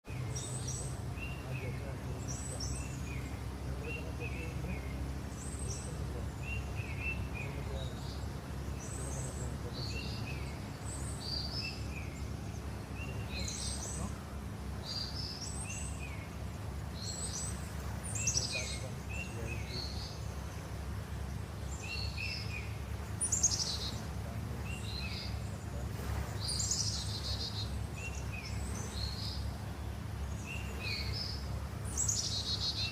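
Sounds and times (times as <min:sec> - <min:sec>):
birds chirping: 0:00.0 - 0:32.9
steady low rumble: 0:00.0 - 0:32.9.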